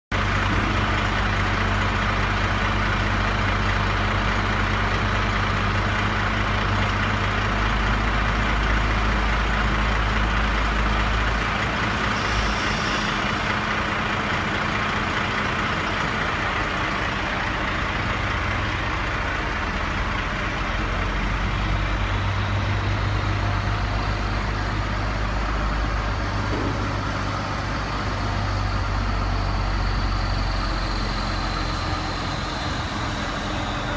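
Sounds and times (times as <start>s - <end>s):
heavy vehicle engine idling: 0.1s - 33.9s.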